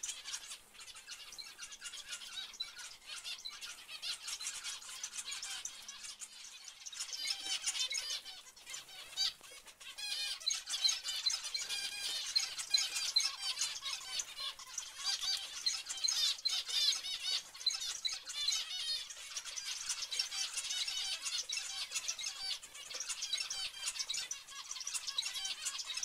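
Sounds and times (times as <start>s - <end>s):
finches chirping: 0.0s - 26.0s.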